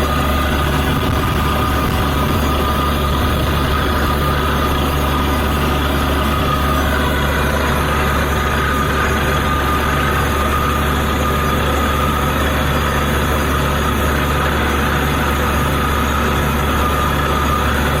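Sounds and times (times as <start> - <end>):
drilling rig engine drone: 0.0 - 18.0
steady high whine: 0.0 - 18.0.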